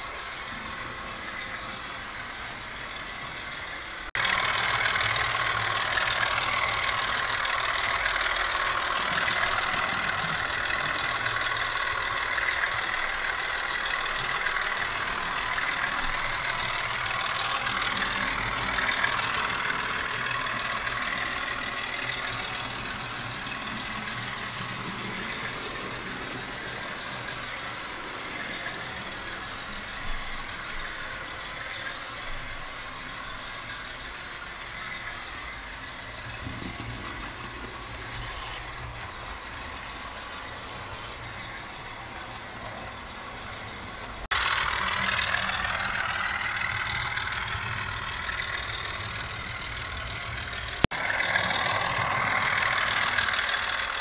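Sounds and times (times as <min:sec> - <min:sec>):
model train motors whirring: 0:00.0 - 0:54.0.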